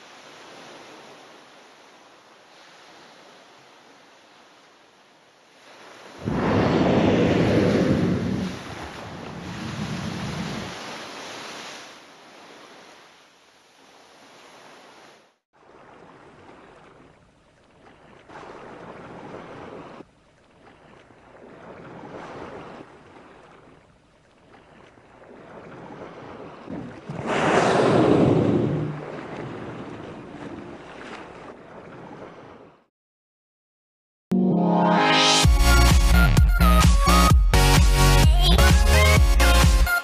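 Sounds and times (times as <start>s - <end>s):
rushing sea water: 0.0s - 32.9s
wind: 0.0s - 32.9s.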